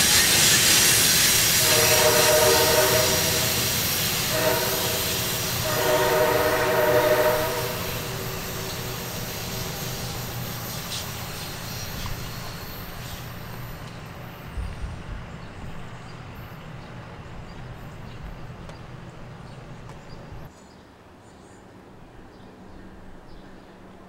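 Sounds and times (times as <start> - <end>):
train rumbling away: 0.0 - 20.5.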